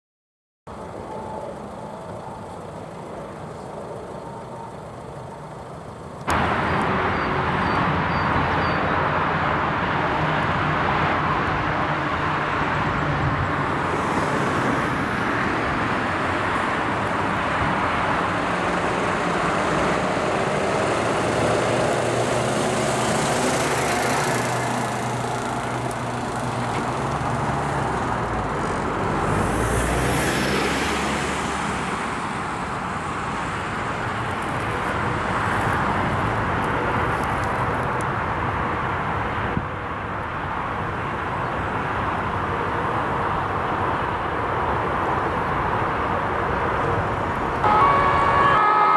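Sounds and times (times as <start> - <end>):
diesel truck engines: 0.7 - 48.9
tyre and traffic noise: 0.7 - 48.9.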